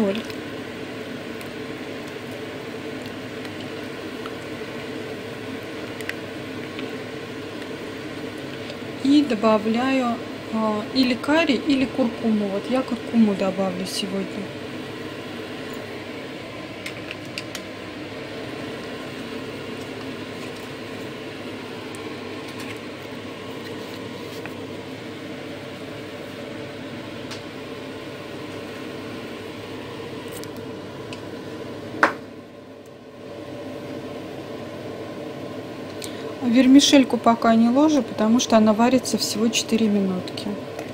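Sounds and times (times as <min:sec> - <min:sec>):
broth boiling and bubbling: 0:00.0 - 0:40.9.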